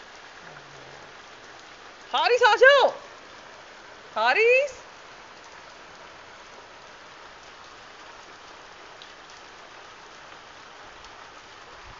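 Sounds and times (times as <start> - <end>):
rain falling on foliage: 0.0 - 11.9.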